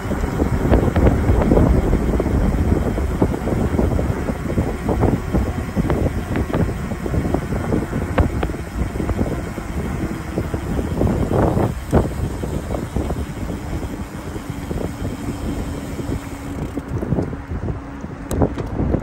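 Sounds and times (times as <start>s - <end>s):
road rumble: 0.0s - 19.0s
wind on microphone: 0.0s - 19.0s.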